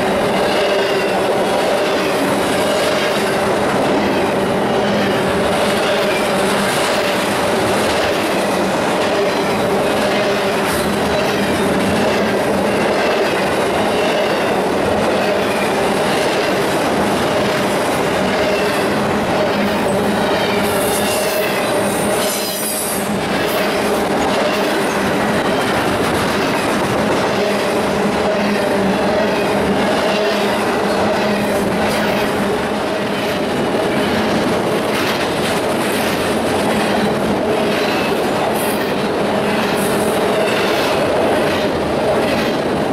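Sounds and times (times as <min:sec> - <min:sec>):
train wheel rumble and clatter: 0:00.0 - 0:42.9.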